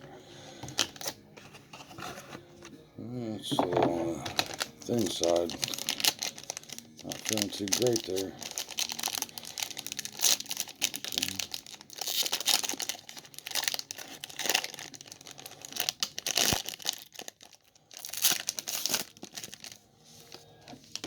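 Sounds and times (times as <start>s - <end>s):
plastic wrapper crinkling and tearing: 0.6s - 2.4s, 3.5s - 21.0s.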